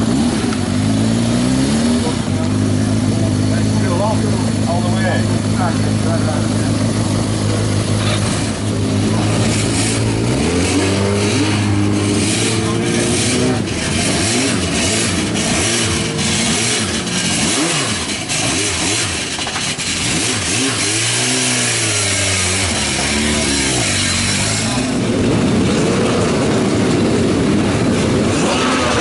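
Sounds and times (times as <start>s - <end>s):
racing motorcycle engines revving: 0.0s - 29.0s.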